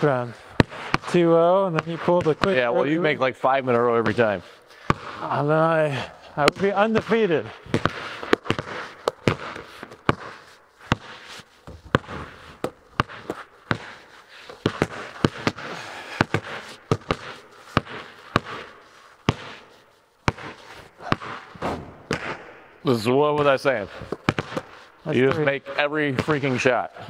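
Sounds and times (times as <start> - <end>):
basketballs bouncing on concrete: 0.0 - 22.5, 23.2 - 27.0.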